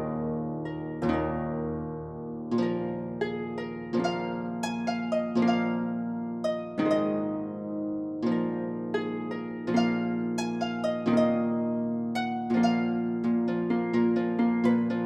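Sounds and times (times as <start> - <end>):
plucked harp melody: 0.0 - 15.0.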